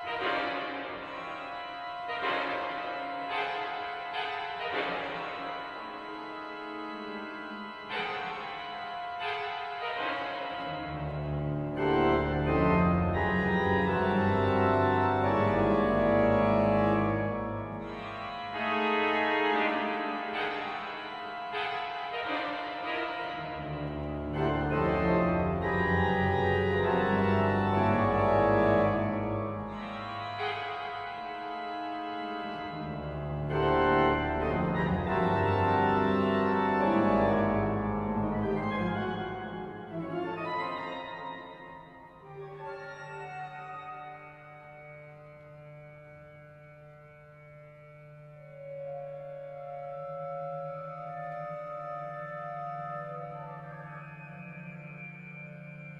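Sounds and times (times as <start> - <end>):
organ playing chords: 0.0 - 55.9.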